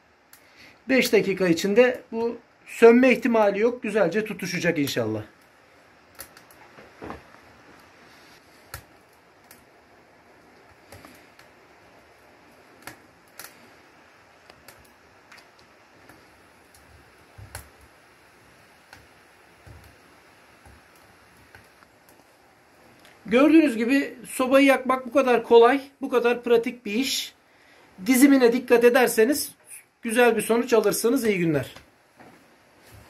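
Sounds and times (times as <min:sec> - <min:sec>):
faint steady fire hiss: 0:00.0 - 0:33.0
wood fire crackling and popping: 0:00.0 - 0:33.0.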